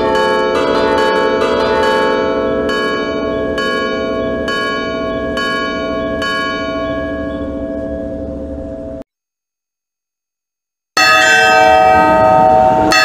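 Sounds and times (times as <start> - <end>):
church bells ringing: 0.0 - 9.0, 11.0 - 13.0.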